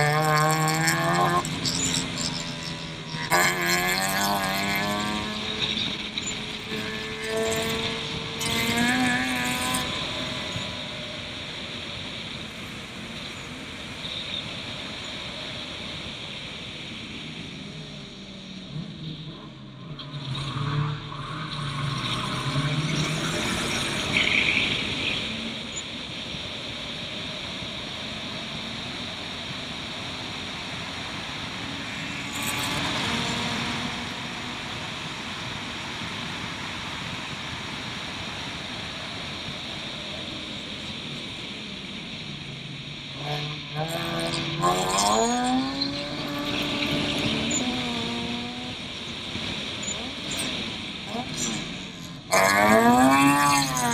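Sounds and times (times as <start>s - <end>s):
race car engine: 0.0s - 53.9s
road and wind noise: 0.0s - 53.9s.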